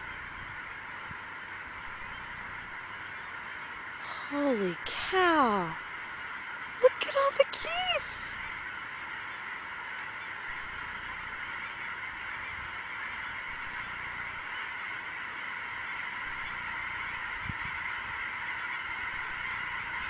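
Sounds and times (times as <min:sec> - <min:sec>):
flock of geese honking: 0:00.0 - 0:04.4, 0:05.1 - 0:20.0.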